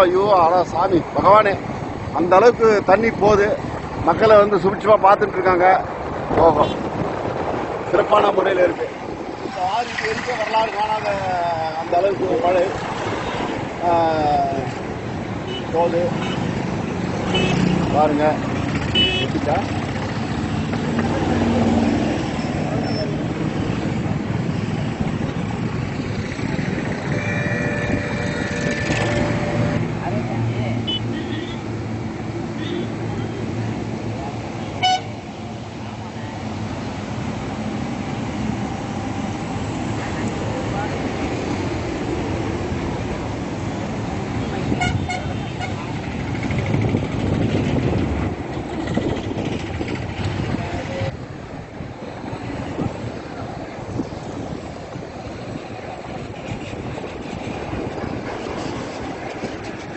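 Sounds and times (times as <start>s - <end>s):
rumbling rush of a flooded river: 0.0s - 59.9s
traffic crossing a bridge: 0.0s - 59.9s.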